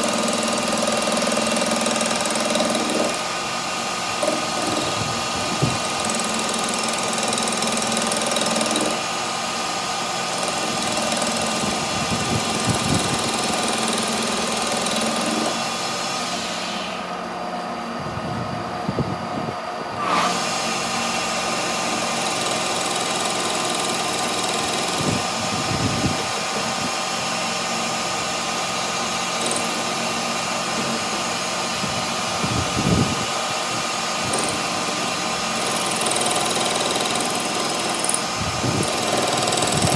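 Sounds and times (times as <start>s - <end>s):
workshop machinery humming: 0.0s - 39.9s.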